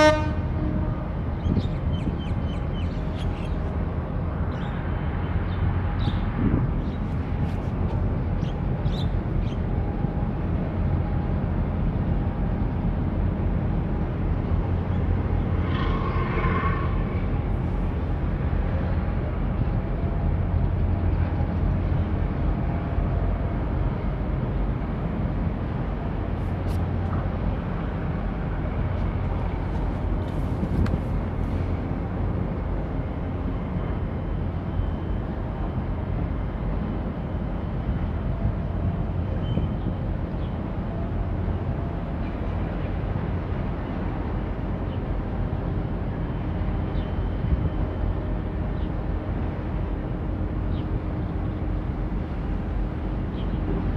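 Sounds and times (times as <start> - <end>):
ship engine rumble: 0.0 - 53.9.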